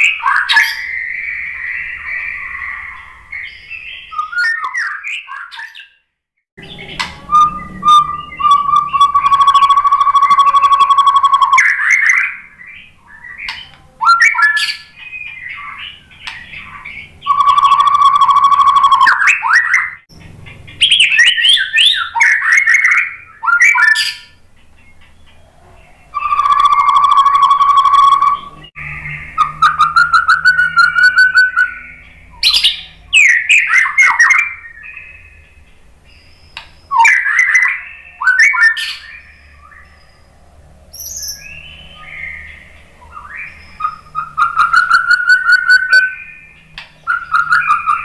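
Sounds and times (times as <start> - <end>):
bird singing whistled notes: 0.0 - 6.0, 6.6 - 48.0.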